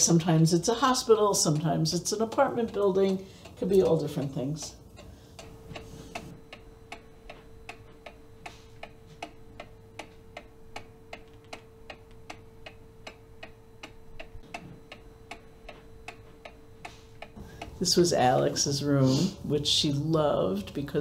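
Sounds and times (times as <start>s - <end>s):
mechanical ticking: 0.0s - 18.9s
faint steady hum: 0.0s - 21.0s.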